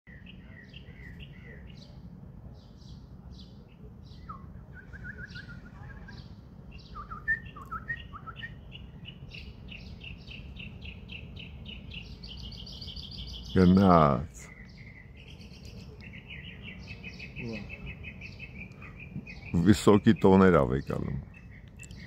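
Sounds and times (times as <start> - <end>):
songbirds chirping and singing: 0.1 - 22.0.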